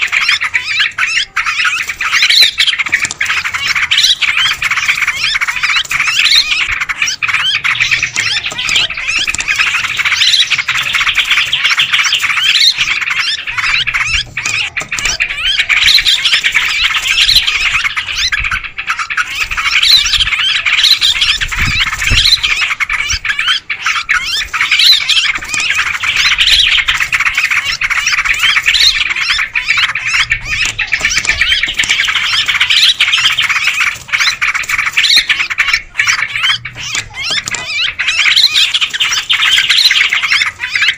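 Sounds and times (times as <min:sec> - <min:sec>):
bulbuls chattering: 0:00.0 - 0:40.9
sharp pitched bird notes: 0:00.0 - 0:40.9.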